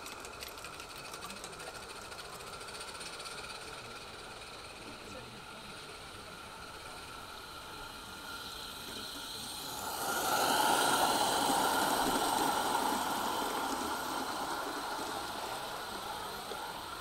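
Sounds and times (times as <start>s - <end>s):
small wheels rolling on rails: 0.0s - 17.0s
steam hiss: 0.0s - 17.0s.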